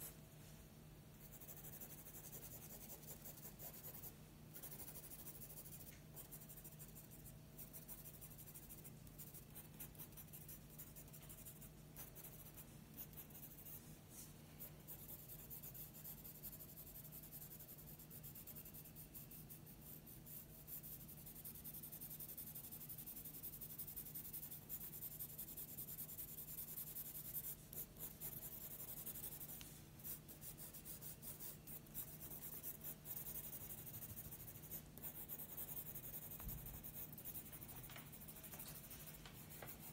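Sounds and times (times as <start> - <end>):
pencil scratching on paper: 1.2 - 13.8, 14.8 - 39.9.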